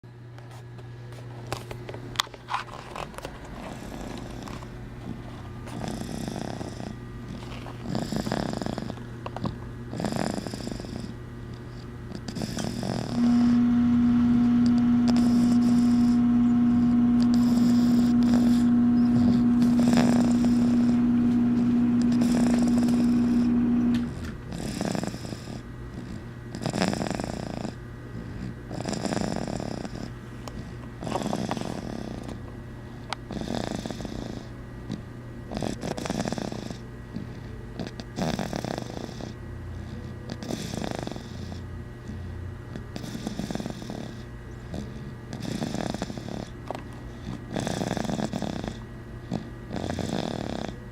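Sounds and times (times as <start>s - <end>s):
loud steady hum: 0.1s - 50.9s
rhythmic snoring: 3.7s - 32.4s, 33.3s - 46.6s, 47.2s - 50.9s.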